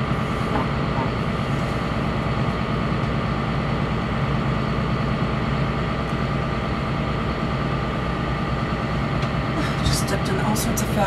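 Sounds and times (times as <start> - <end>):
boat engines droning: 0.0 - 11.0.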